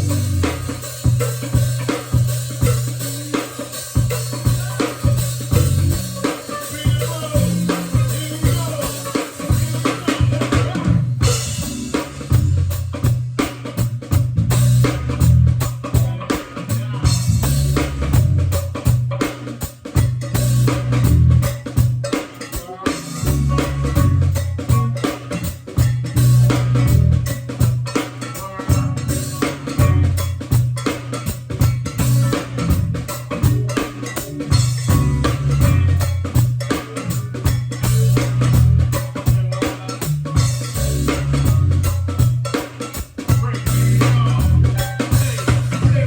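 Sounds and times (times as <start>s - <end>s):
repeating bass line: 0.0s - 3.2s, 4.5s - 12.8s, 14.3s - 18.9s, 20.2s - 21.5s, 23.0s - 27.8s, 28.5s - 42.4s, 43.3s - 46.0s
drum kit and percussion beat: 0.0s - 46.0s.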